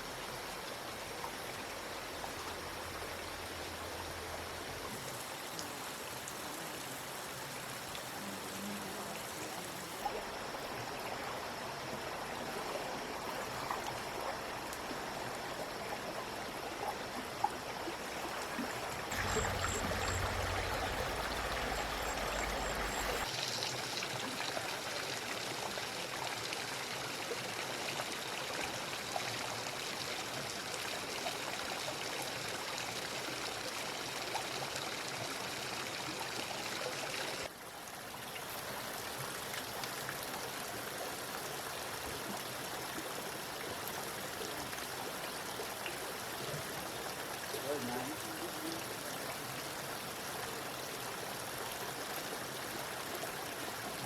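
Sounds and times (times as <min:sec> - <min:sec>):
rush of running water: 0:00.0 - 0:54.0.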